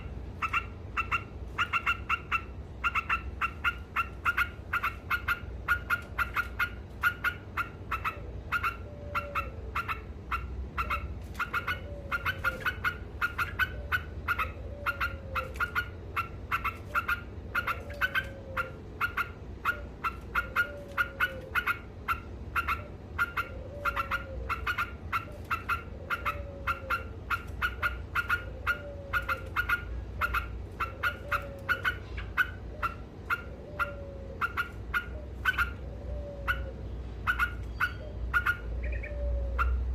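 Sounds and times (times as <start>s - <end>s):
bird chattering rapid notes: 0.0s - 35.8s, 37.2s - 39.8s.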